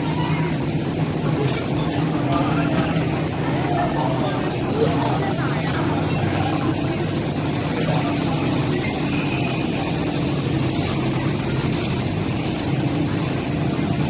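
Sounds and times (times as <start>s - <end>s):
stationary train humming: 0.0s - 14.0s.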